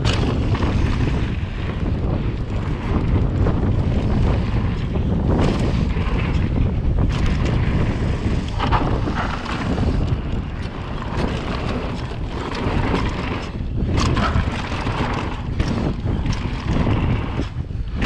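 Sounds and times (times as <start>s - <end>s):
bike clicks and rattles: 0.0s - 18.0s
steady rumble: 0.0s - 18.0s
wind buffeting microphone: 0.0s - 18.0s.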